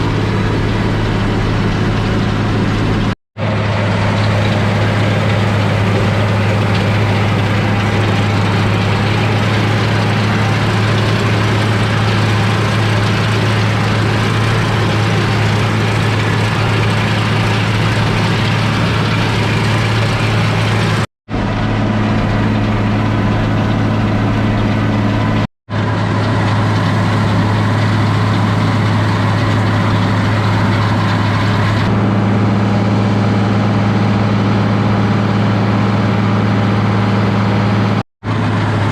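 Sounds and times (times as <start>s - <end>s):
tractor diesel engine drone: 0.0s - 38.9s.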